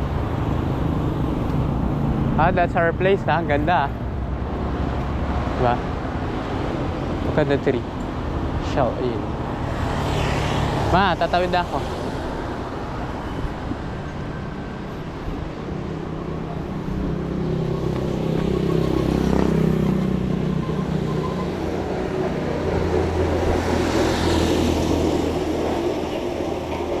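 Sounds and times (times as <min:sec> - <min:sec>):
motor vehicles passing: 0:00.0 - 0:27.0.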